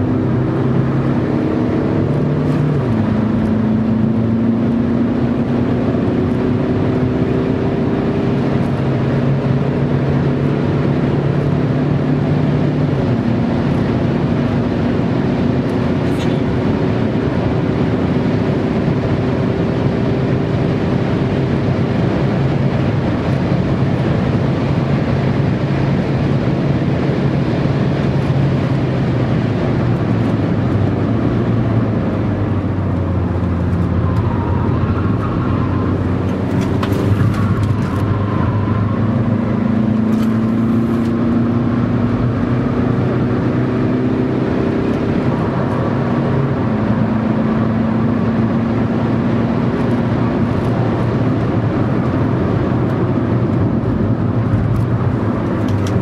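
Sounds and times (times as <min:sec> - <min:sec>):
car engine revving: 0:00.0 - 0:56.0
road noise inside car: 0:00.0 - 0:56.0.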